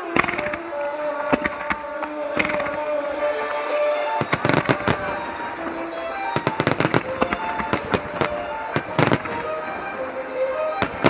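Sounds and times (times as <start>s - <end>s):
fireworks bursting with sharp bangs: 0.0s - 11.0s
violin music: 0.0s - 11.0s.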